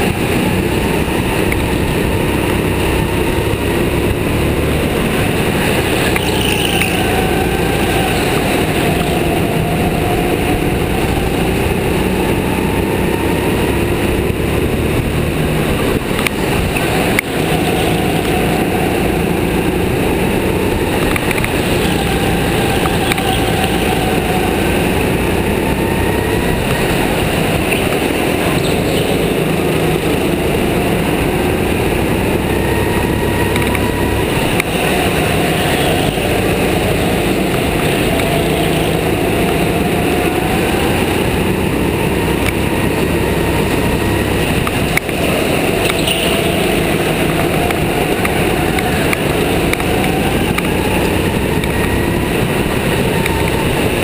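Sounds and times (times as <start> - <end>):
go-kart motor revving: 0.0 - 54.0
rush of noise: 0.0 - 54.0.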